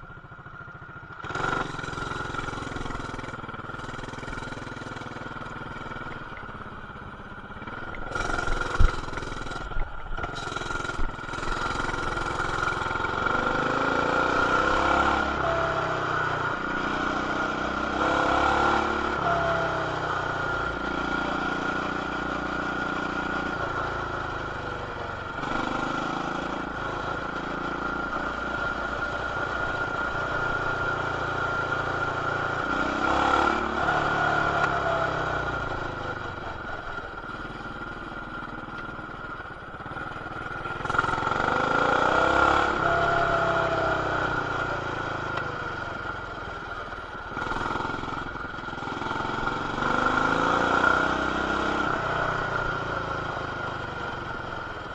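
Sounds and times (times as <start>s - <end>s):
mini bike engine running: 0.0s - 54.9s.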